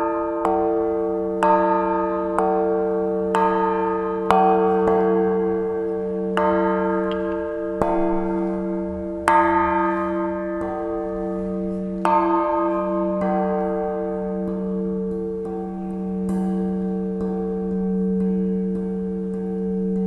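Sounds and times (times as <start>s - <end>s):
church bell striking: 0.0s - 20.0s.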